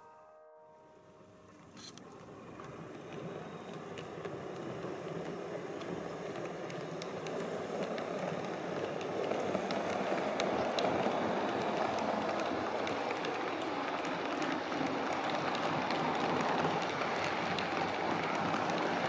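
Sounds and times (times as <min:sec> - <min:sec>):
model train rumbling on track: 0:01.0 - 0:19.0
wheels clicking over rail joints: 0:01.6 - 0:19.0.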